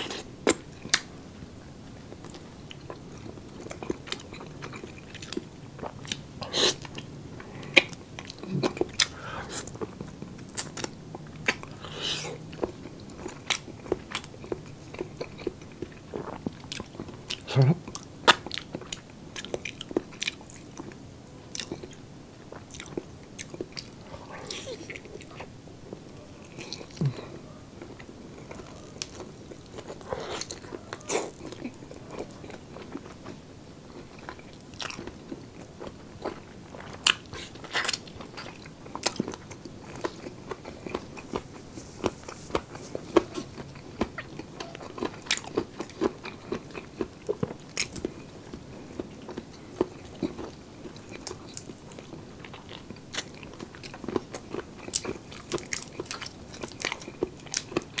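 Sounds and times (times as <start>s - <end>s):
person chewing and biting: 3.6s - 33.3s, 34.0s - 58.0s.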